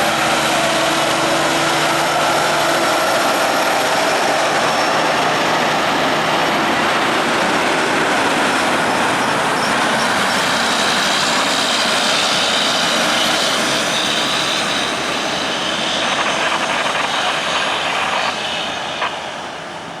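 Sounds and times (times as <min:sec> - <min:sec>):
heavy vehicle engine and road noise: 0:00.0 - 0:20.0.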